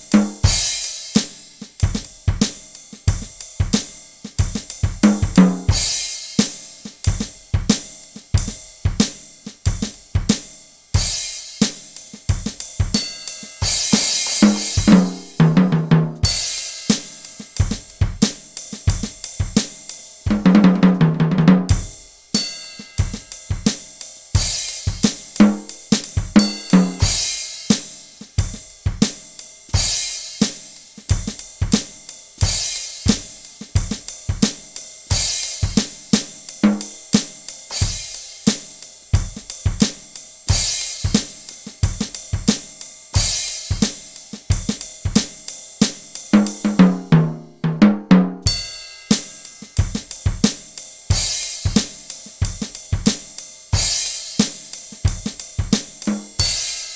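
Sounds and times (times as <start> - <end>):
electronic drum kit groove: 0.0 - 56.9.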